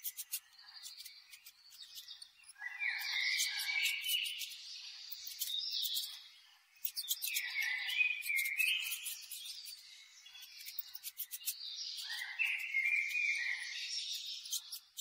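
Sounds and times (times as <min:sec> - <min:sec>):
birds singing warbling phrases: 0:00.0 - 0:15.0.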